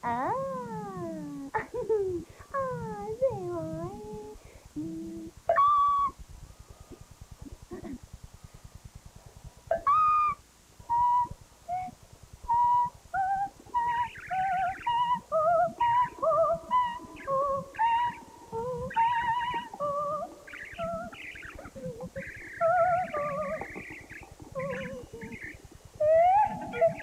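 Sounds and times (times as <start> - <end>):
faint low pulse: 0.0 - 27.0.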